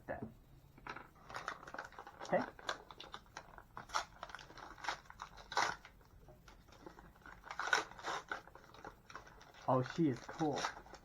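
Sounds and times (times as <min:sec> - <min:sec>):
packaging rustling: 0:00.8 - 0:11.0.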